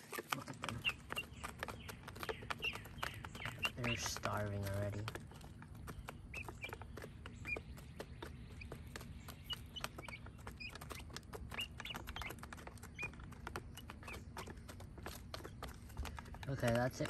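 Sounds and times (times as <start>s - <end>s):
beaks clicking on plastic: 0.0s - 17.0s
chicks peeping: 0.0s - 17.0s.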